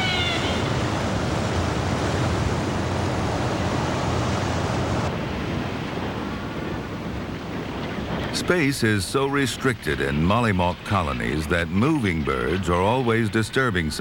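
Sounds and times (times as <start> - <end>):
ocean surf: 0.0 - 14.0
rushing wind: 0.0 - 14.0.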